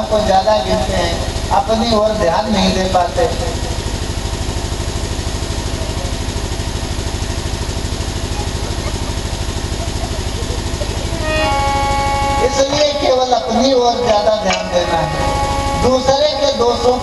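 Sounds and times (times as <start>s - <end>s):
small engine running: 0.0s - 17.0s
sustained musical chord: 0.0s - 17.0s.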